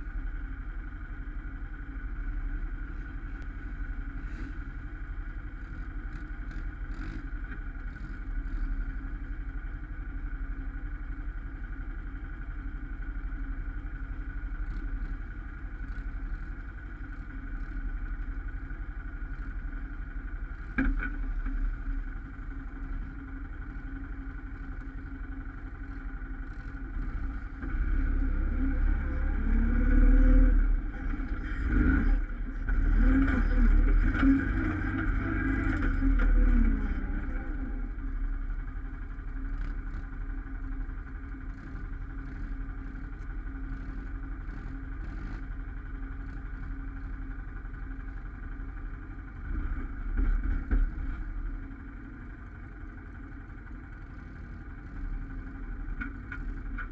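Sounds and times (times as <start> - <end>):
atv engine revving and idling: 0.0 - 56.9
other atv engines: 0.0 - 56.9.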